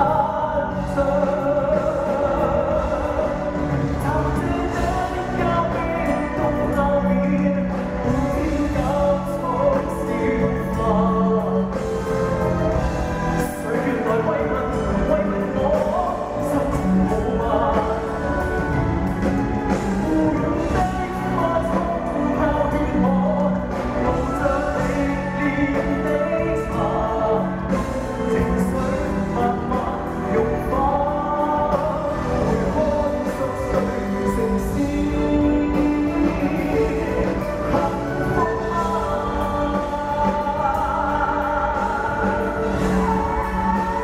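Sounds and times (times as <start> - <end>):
man singing pop song live: 0.0 - 44.0
traditional orchestra playing: 0.0 - 44.0.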